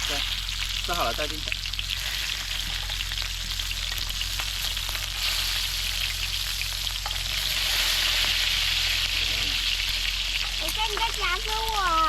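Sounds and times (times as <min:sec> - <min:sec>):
fat crackling and popping: 0:00.0 - 0:12.0
meat sizzling in a pan: 0:00.0 - 0:12.0.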